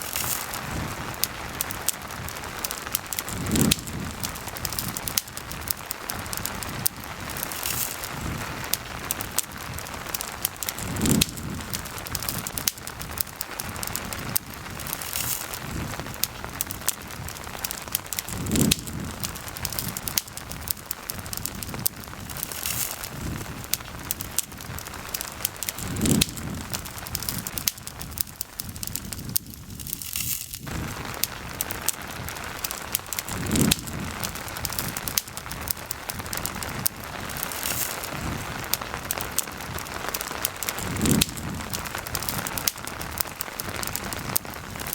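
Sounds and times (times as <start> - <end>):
campfire crackling and popping: 0.0 - 44.9
rain falling: 0.0 - 44.9.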